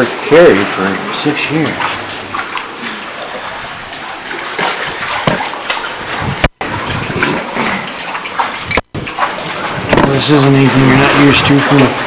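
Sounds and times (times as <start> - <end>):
seawater sloshing among rocks: 0.0 - 12.0.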